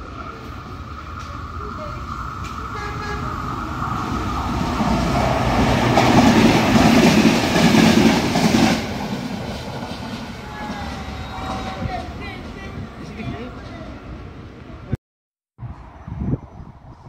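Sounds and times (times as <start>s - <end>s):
distant train rumble: 0.0s - 15.0s
train wheels rumbling and clattering: 0.1s - 14.0s.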